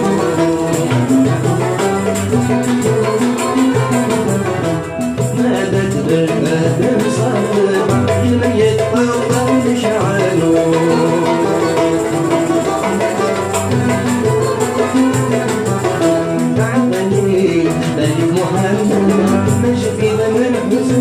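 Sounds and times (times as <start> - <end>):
banjos piano and violin melody: 0.0 - 21.0
frame drum beat: 0.0 - 21.0.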